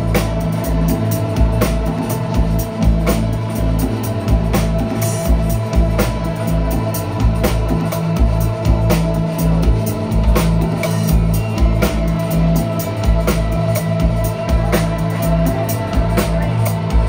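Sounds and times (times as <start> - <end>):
bass guitar notes: 0.0 - 17.0
electric guitar: 0.0 - 17.0
keyboards: 0.0 - 17.0.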